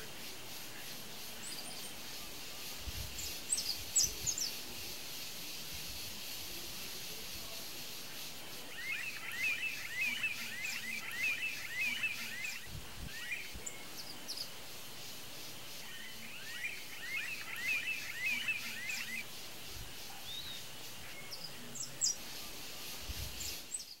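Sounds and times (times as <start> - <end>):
bird chattering calls: 0.0 - 24.0
steady outdoor hiss: 0.0 - 24.0.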